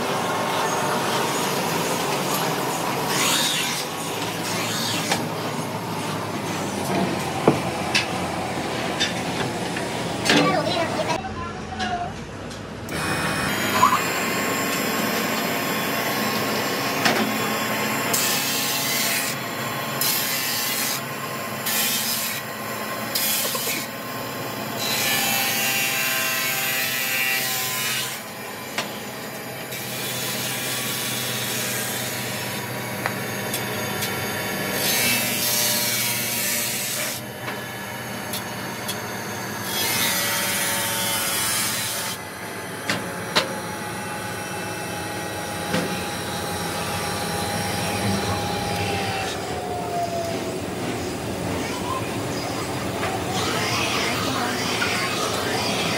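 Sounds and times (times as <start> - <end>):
table saw cutting: 0.0 - 11.1, 12.9 - 55.9.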